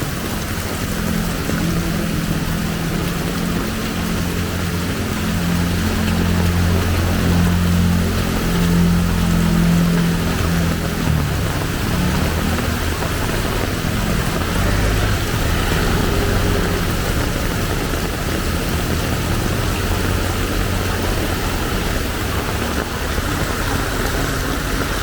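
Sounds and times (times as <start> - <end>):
heavy rain pouring: 0.0 - 25.0
vehicle engine running: 0.0 - 25.0.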